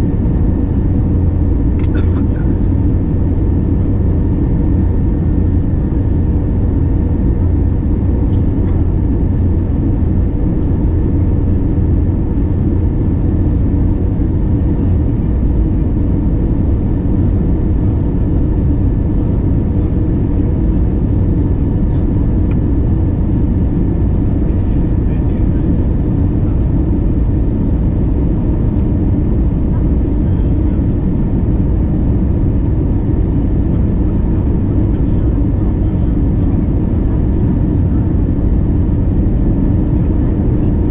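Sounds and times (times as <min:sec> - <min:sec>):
engine and airflow rumble: 0:00.0 - 0:40.9.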